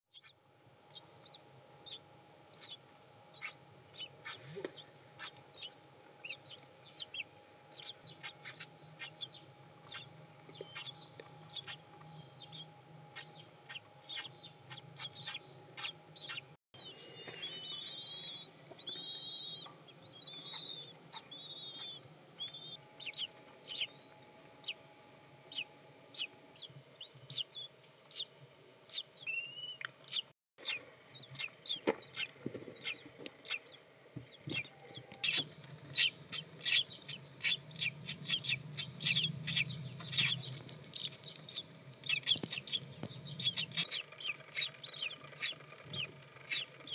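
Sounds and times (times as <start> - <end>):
chicks cheeping: 0.1 - 28.3, 28.9 - 46.9
wavering calls: 0.1 - 28.3, 28.9 - 33.8, 34.4 - 46.9.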